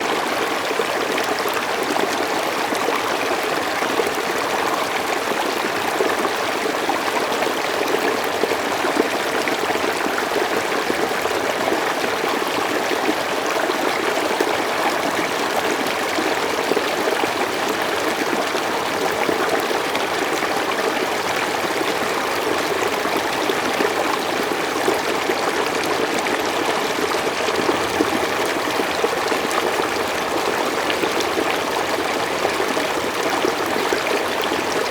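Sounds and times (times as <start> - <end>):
stream water flowing: 0.0 - 34.9.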